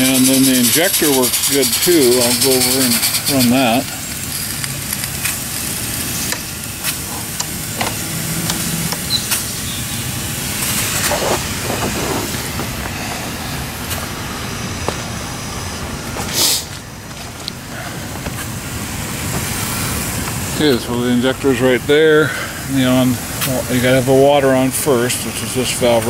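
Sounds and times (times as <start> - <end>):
steam hissing from locomotive: 0.0 - 26.0.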